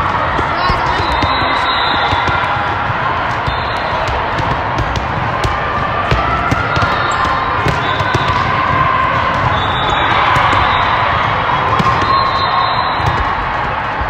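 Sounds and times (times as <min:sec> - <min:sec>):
echoing din of voices: 0:00.0 - 0:14.0
volleyballs bouncing and struck: 0:00.0 - 0:14.0.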